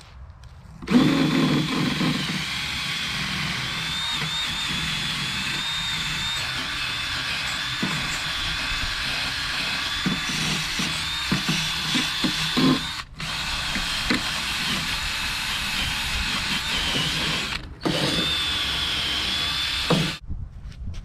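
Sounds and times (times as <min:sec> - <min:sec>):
handheld power tool whining: 0:00.8 - 0:20.2.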